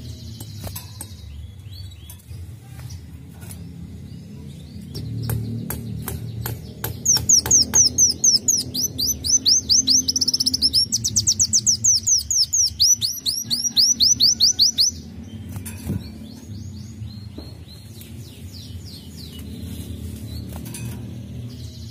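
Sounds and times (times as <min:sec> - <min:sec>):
bird singing: 0:00.0 - 0:21.9.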